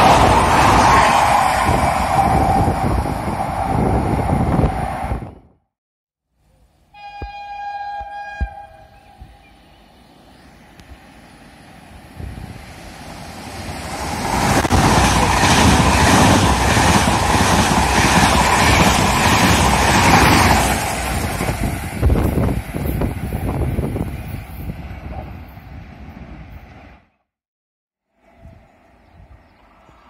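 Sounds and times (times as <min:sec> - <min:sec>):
train rumbling on rails: 0:00.0 - 0:05.5, 0:08.0 - 0:27.2.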